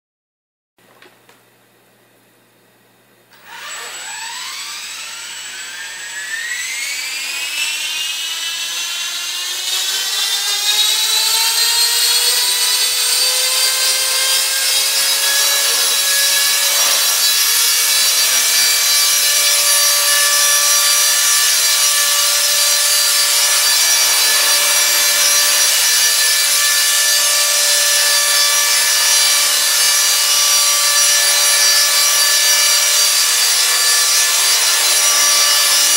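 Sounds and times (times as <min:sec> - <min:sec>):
electric helicopter rotor whine: 0:03.4 - 0:35.9.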